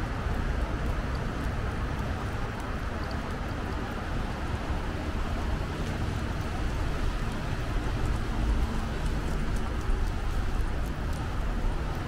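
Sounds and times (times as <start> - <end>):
faint light ticks: 0.0 - 12.0
wind buffeting microphone: 0.0 - 12.0.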